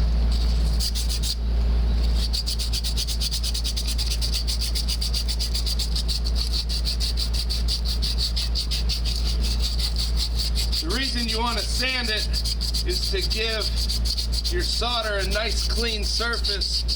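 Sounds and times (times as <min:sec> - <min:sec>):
sand cloth rasping on copper pipe: 0:00.0 - 0:01.4, 0:02.0 - 0:16.9.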